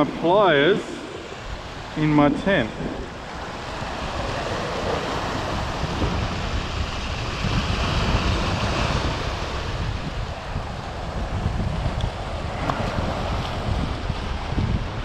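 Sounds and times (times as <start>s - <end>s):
ocean swell washing over rocks: 0.0s - 15.0s
wind buffeting microphone: 0.0s - 15.0s.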